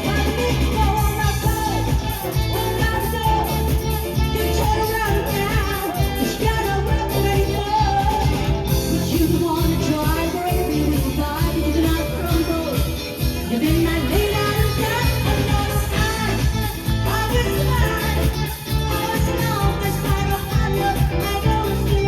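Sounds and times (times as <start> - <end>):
pop-rock music with singing: 0.0 - 22.0.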